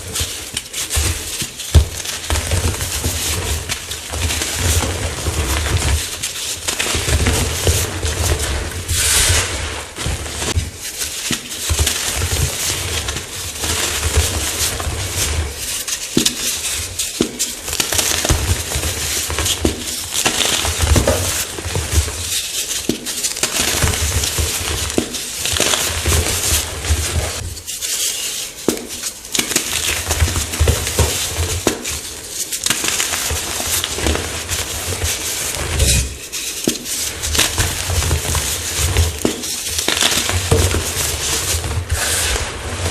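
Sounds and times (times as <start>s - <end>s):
chalk blocks crunching: 0.0s - 42.9s.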